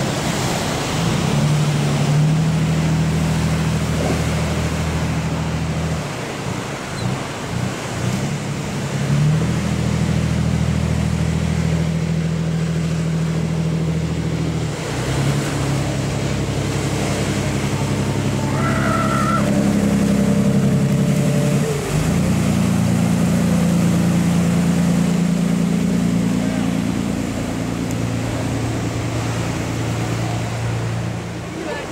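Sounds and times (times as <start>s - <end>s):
boat diesel engine running hard: 0.0s - 31.9s
waves rushing: 0.0s - 31.9s.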